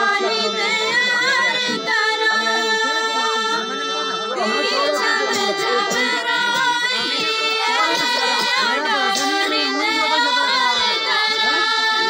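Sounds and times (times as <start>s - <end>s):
harmonium holding notes: 0.0s - 12.0s
people singing: 0.0s - 12.0s.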